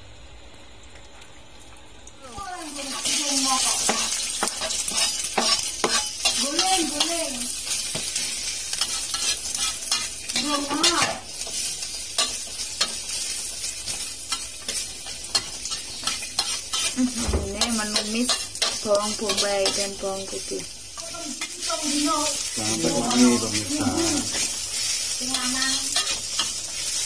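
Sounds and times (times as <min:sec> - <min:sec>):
onion sizzling in hot oil: 0:02.1 - 0:27.0
metal spatula scraping wok: 0:02.8 - 0:20.3, 0:20.9 - 0:27.0.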